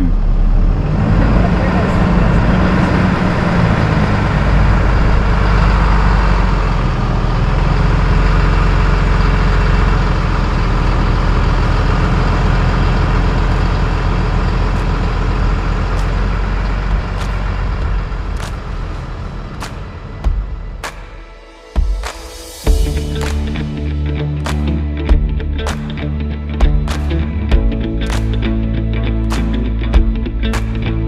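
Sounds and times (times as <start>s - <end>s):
truck engine rumbling: 0.0s - 21.2s, 22.7s - 31.0s.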